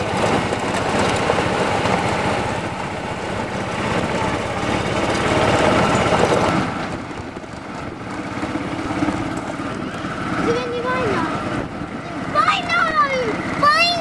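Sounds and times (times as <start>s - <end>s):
golf buggy engine running: 0.0s - 14.0s.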